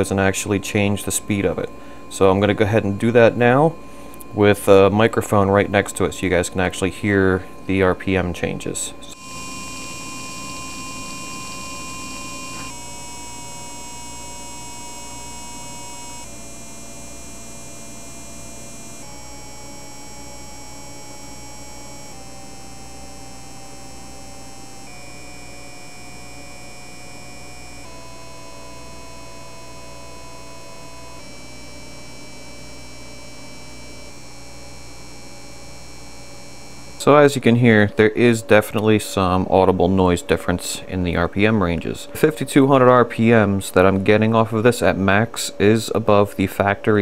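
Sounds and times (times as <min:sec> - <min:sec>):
water pump humming with high whine: 0:00.0 - 0:40.7.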